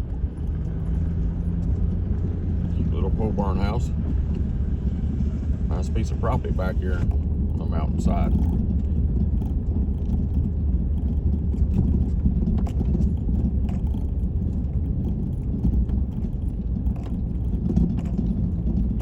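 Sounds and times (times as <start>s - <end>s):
faint rattles and clicks: 0.0s - 19.0s
truck rumble inside cab: 0.0s - 19.0s.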